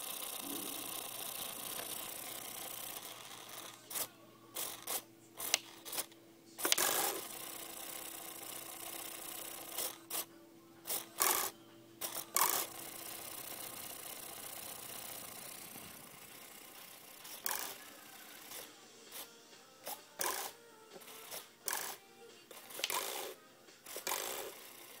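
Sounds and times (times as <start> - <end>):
servos buzzing and jittering: 0.0 - 10.3, 10.9 - 25.0.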